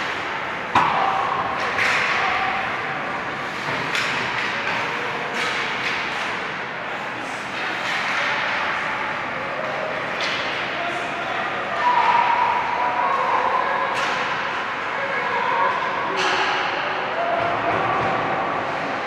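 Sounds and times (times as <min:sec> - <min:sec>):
noisy rink background: 0:00.0 - 0:19.0.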